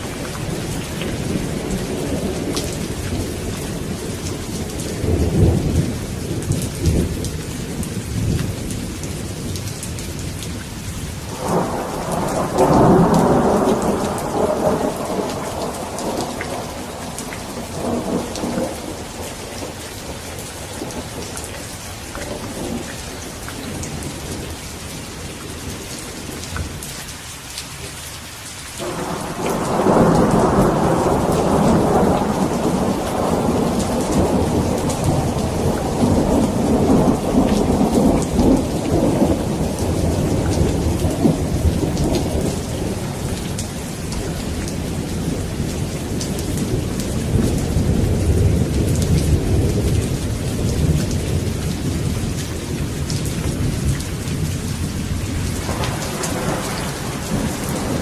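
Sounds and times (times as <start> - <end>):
rolling thunder: 0.0 - 10.2, 11.2 - 21.6, 28.8 - 58.0
steady rain: 0.0 - 58.0.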